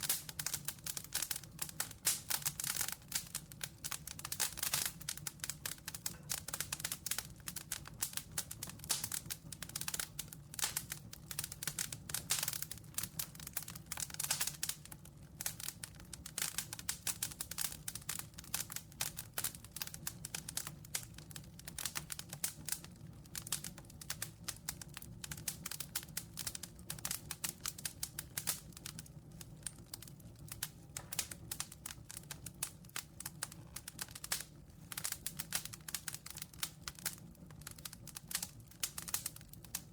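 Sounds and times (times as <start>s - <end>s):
campfire pops and snaps: 0.0s - 39.9s
low rumble of burning fire: 0.0s - 39.9s.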